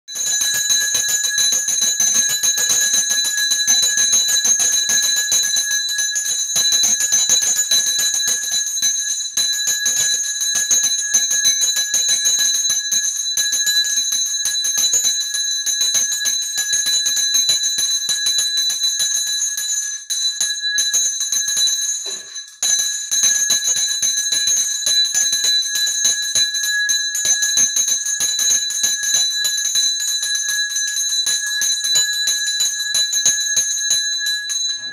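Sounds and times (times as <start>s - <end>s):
temple bell ringing rapidly: 0.1s - 34.9s.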